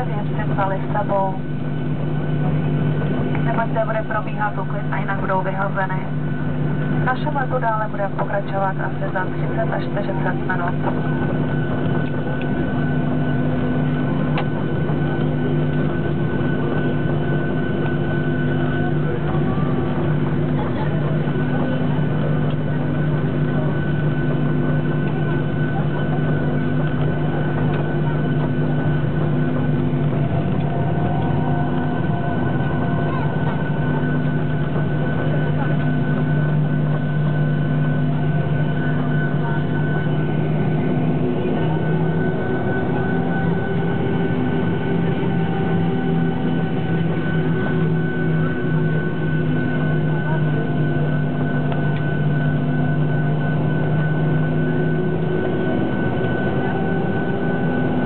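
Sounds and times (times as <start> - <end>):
high whine: 0.0 - 58.0
jet engines idling: 0.0 - 58.0.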